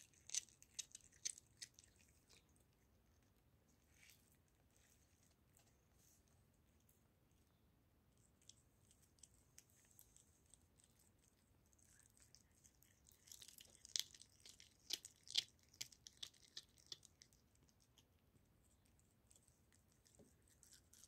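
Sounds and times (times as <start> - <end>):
cat gnawing and crunching bone: 0.0 - 21.0.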